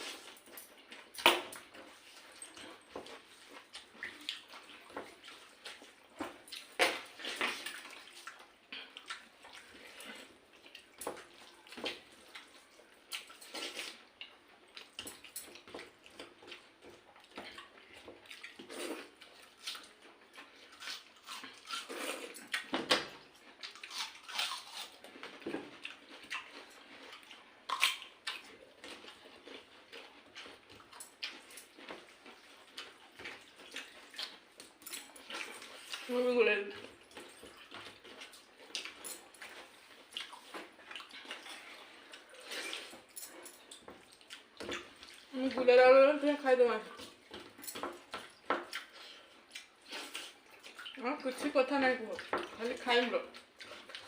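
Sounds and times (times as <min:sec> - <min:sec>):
chewing: 0:00.0 - 0:45.6, 0:46.8 - 0:51.0, 0:52.1 - 0:54.0.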